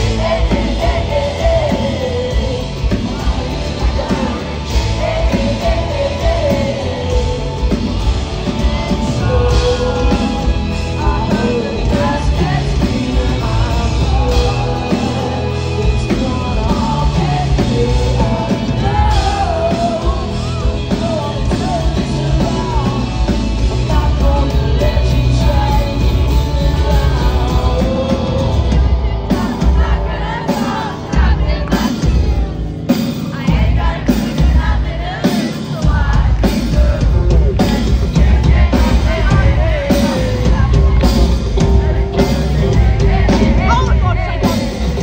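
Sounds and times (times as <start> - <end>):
lead singer singing: 0.0 - 45.0
pop-rock band playing: 0.0 - 45.0.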